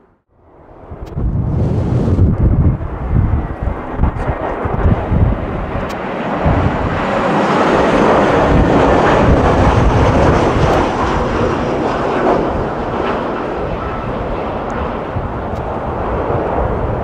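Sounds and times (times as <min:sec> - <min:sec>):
jet airliner flying past: 0:00.4 - 0:17.0.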